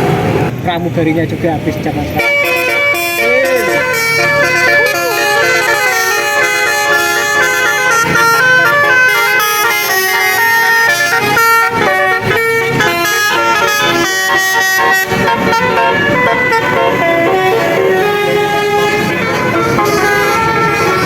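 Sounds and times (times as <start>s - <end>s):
musical bus air horn melody: 2.2s - 21.0s.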